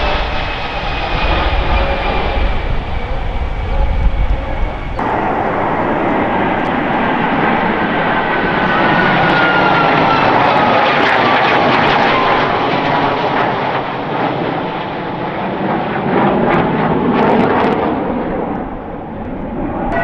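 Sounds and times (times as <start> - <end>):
military jet passing overhead: 0.0 - 20.0.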